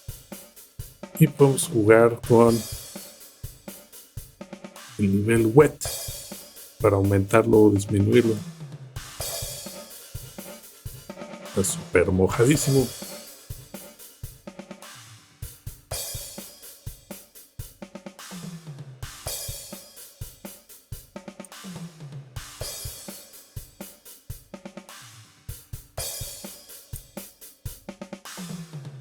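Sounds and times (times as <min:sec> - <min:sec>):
drum kit groove: 0:00.0 - 0:29.0.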